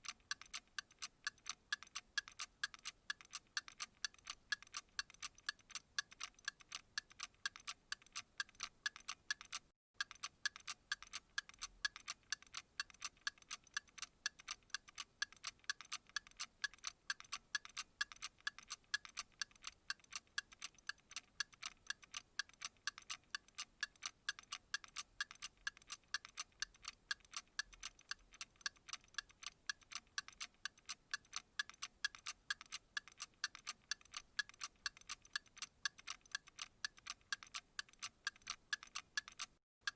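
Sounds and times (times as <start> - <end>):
clock-like ticking: 0.0 - 39.9.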